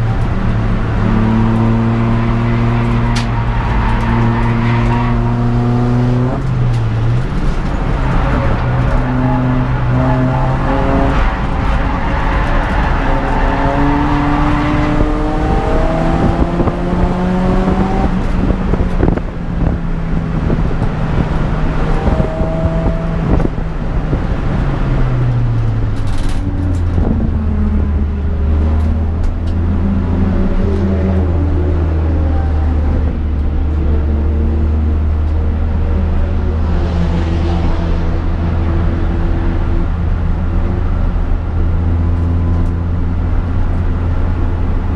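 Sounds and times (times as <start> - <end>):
car engine through gear changes: 0.0 - 36.4.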